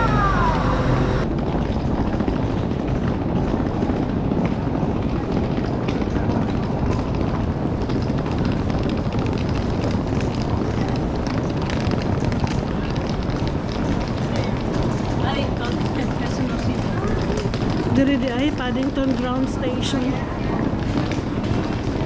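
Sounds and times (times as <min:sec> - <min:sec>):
train rattling and clatter: 0:00.0 - 0:22.0
underground train rumbling: 0:00.0 - 0:22.0.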